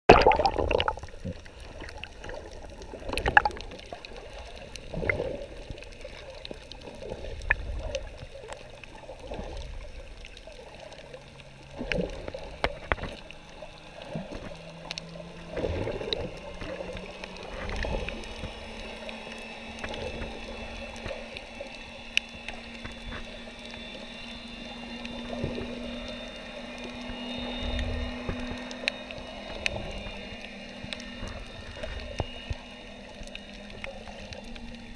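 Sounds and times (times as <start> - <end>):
faint low hum rising in pitch: 0.1 - 34.9
underwater water sloshing: 0.1 - 34.9.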